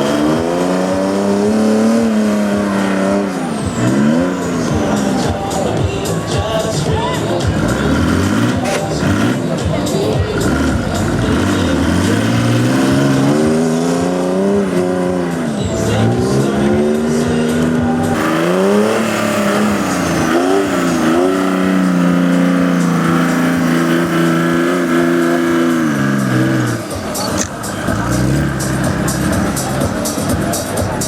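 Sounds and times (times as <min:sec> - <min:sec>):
buggy engine revving: 0:00.0 - 0:31.0.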